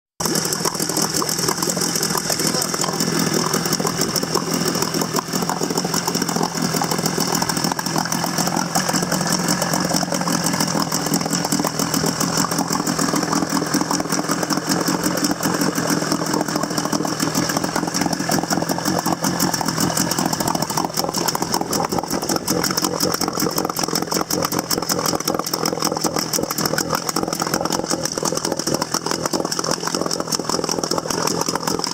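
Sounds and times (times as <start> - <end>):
outboard motor running: 0.2 - 31.9.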